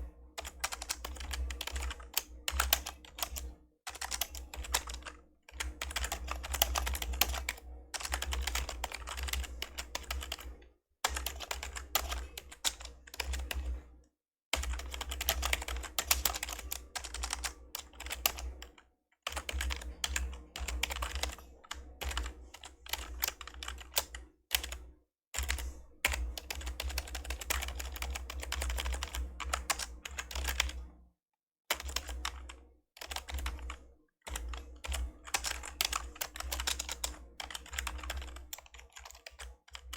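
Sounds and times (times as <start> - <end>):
typing on membrane keyboard: 0.4 - 13.7, 14.6 - 24.8, 25.4 - 30.8, 31.7 - 39.9.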